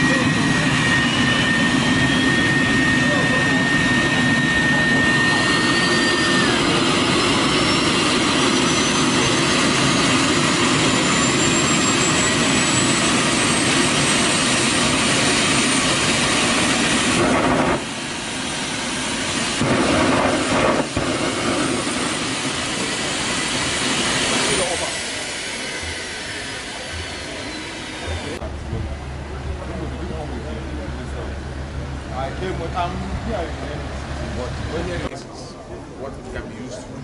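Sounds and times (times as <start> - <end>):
turbojet engine rushing: 0.0 - 35.1
high turbine whine: 0.0 - 37.0.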